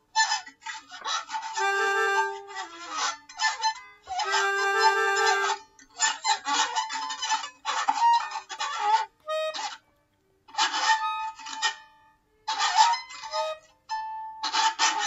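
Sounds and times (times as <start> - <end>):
experimental improvised music: 0.0 - 15.0.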